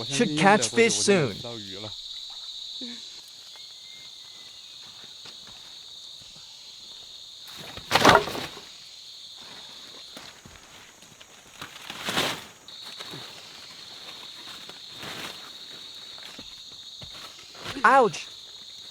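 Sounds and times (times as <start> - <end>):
insects chirring: 0.0 - 18.9.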